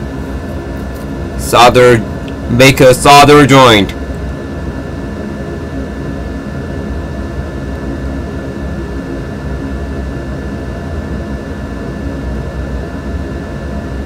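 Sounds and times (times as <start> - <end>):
high-pitched whine: 0.0 - 14.0
low machine hum: 0.0 - 14.0.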